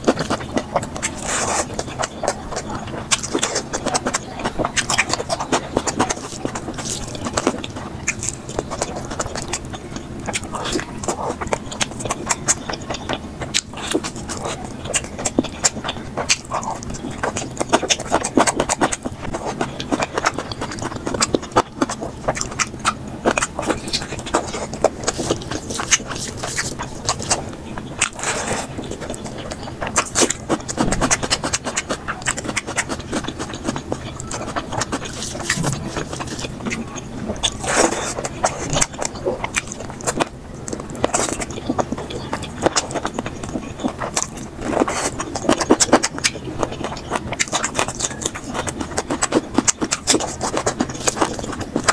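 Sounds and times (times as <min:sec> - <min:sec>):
chewing and wet mouth clicks: 0:00.0 - 0:51.9
rice and curry being mixed: 0:00.0 - 0:51.9.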